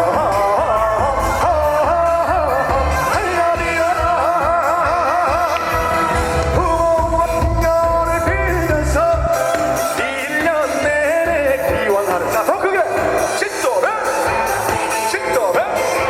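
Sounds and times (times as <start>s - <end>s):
band with steady bass beat: 0.0s - 16.0s
man singing with vibrato: 0.0s - 16.0s.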